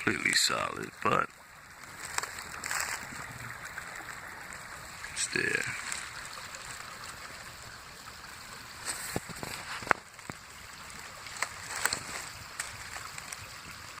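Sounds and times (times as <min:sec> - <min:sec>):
creek running: 0:00.0 - 0:14.0.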